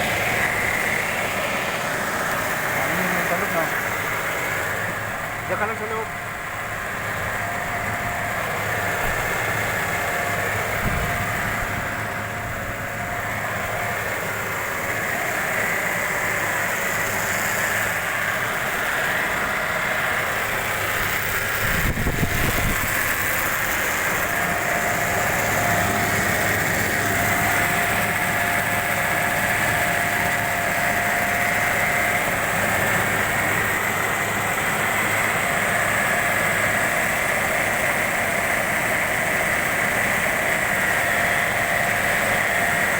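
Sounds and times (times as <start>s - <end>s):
car engine idling: 0.0s - 42.9s
steady whine: 0.0s - 42.9s.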